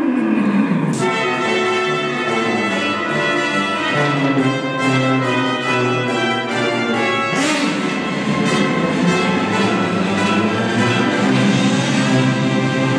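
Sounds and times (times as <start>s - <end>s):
loud sustained brass chords: 0.0s - 12.9s
orchestra playing film music: 0.9s - 12.9s.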